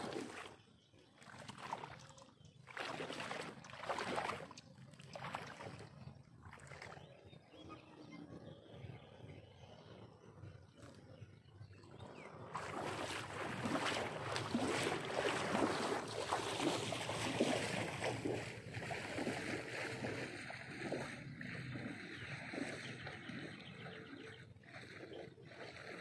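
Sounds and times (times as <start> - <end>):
water splashing and sloshing: 0.0 - 7.6, 10.5 - 26.0.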